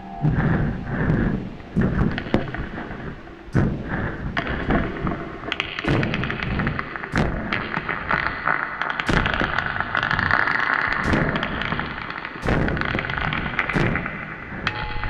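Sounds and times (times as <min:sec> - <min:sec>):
sharp thuds and heavy hits: 0:00.0 - 0:14.8
crackling distorted noise: 0:00.0 - 0:15.0.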